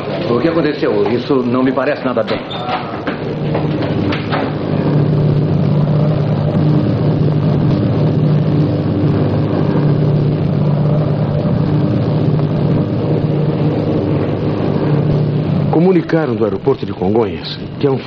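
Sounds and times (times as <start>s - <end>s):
airliner engines droning: 0.0s - 18.0s.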